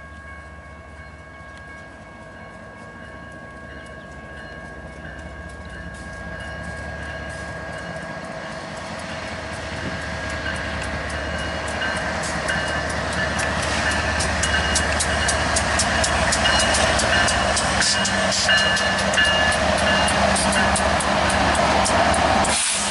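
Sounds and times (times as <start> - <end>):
diesel locomotives passing: 0.0 - 22.9
train wheels clicking on rails: 1.5 - 22.9.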